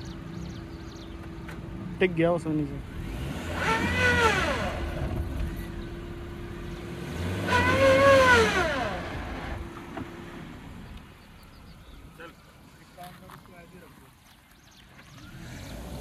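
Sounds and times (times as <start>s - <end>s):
car engine revving: 0.0s - 12.1s, 15.1s - 16.0s.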